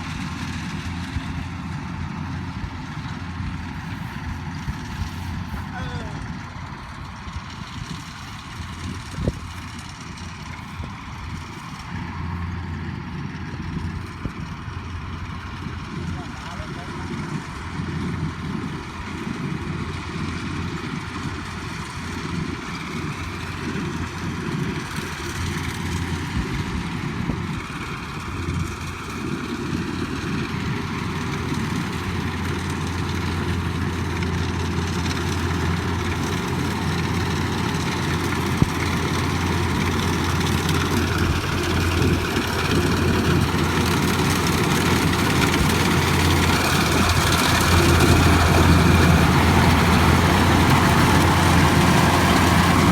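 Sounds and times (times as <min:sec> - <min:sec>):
heavy farm machine engine: 0:00.0 - 0:52.9.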